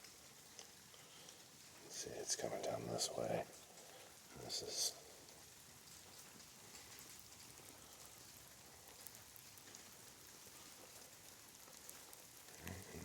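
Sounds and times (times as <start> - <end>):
light rain hiss: 0.0 - 13.0
raindrop ticks: 0.0 - 13.0.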